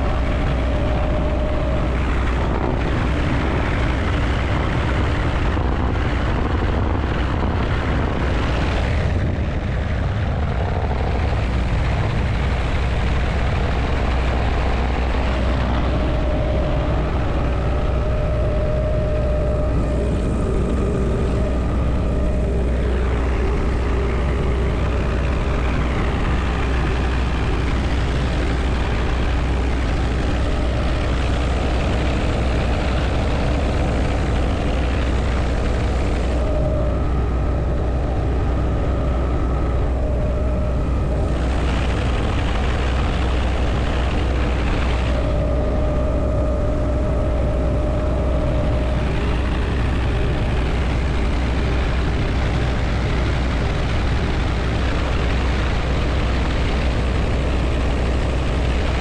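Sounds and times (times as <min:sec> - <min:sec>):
faint high whine: 0:00.0 - 0:59.0
helicopter rotor and engine drone: 0:00.0 - 0:59.0.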